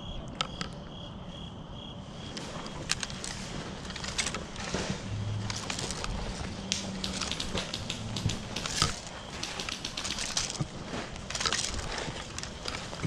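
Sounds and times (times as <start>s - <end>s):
crunching and crackling: 2.3s - 13.0s.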